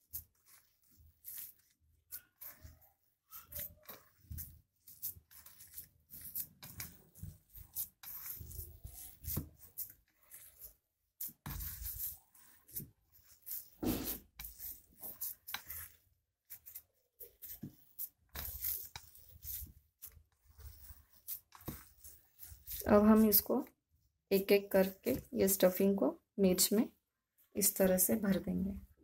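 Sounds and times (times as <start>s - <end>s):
hand squishing mashed potato in bowl: 0.0s - 29.0s.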